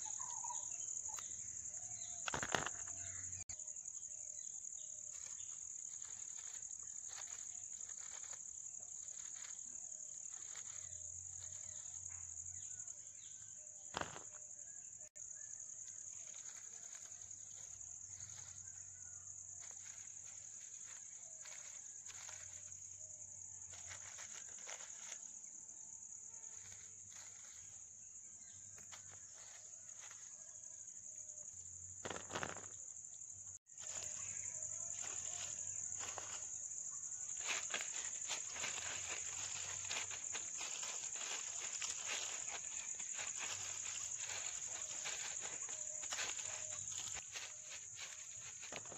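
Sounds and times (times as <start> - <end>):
high-pitched insect drone: 0.0 - 14.4, 15.0 - 48.9.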